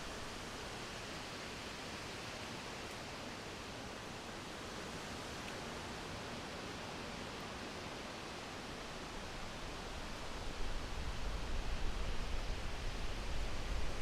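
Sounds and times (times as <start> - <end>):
steady wind hiss: 0.0 - 14.0.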